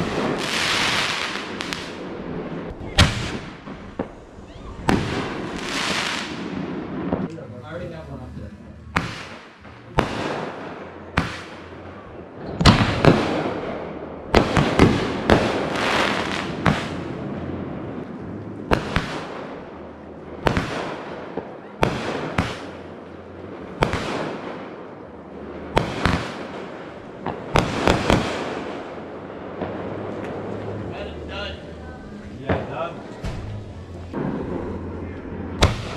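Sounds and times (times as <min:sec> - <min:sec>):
fireworks bangs: 0:00.0 - 0:35.9.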